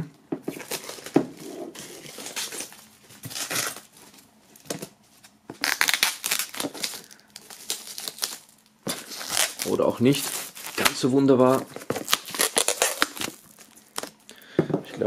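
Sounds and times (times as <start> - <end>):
plastic film crinkling and tearing: 0.5 - 14.3.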